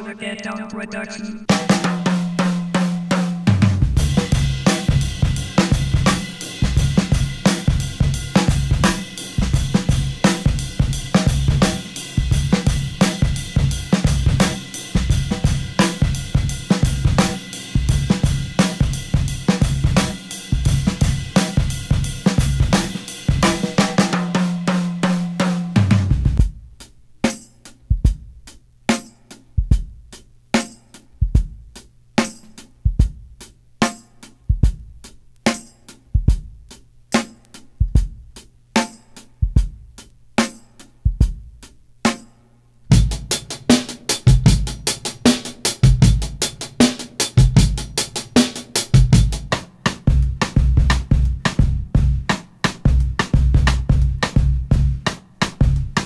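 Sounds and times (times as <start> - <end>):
breakbeat drum music: 0.0 - 56.0.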